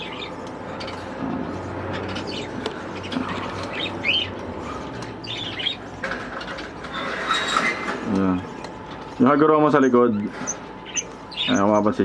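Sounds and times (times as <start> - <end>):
budgerigars chirping: 0.0 - 6.6, 7.3 - 12.0.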